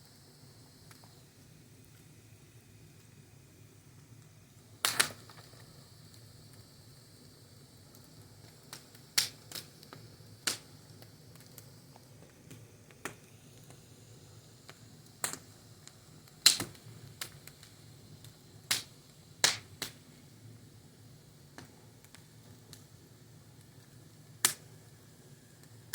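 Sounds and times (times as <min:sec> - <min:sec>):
wood fire crackling: 0:00.1 - 0:25.9.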